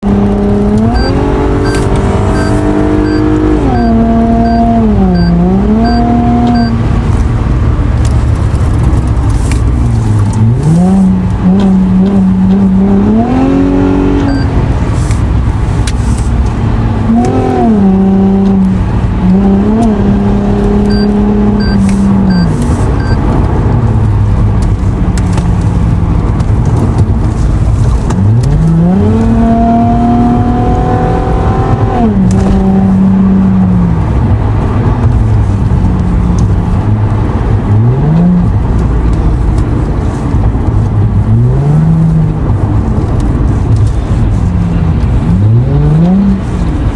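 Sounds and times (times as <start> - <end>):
sports car engine revving: 0.0 - 46.9.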